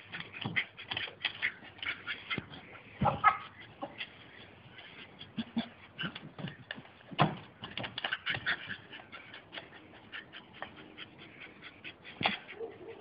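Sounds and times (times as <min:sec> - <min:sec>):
dog making play noises: 0:00.0 - 0:13.0.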